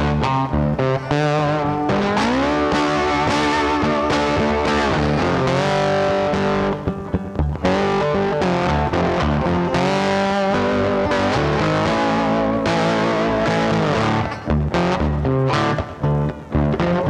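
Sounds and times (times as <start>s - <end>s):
electric guitar music: 0.0s - 17.0s.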